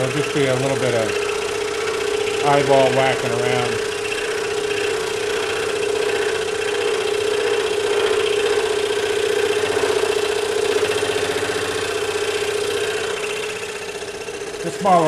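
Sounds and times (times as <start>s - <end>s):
scroll saw cutting wood: 0.0s - 15.0s.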